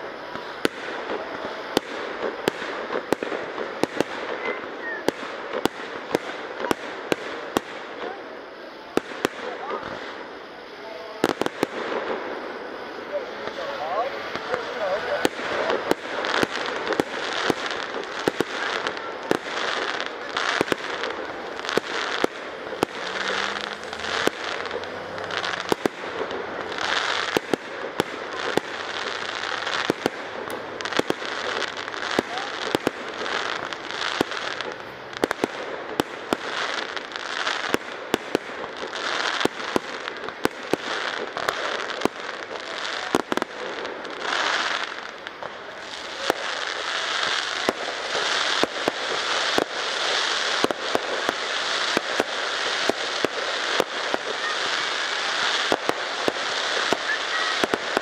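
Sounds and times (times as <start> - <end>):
fireworks hissing and crackling: 0.0 - 58.0.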